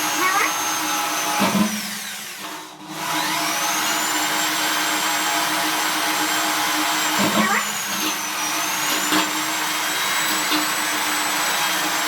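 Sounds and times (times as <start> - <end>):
electric drill motor whine: 0.0 - 12.0.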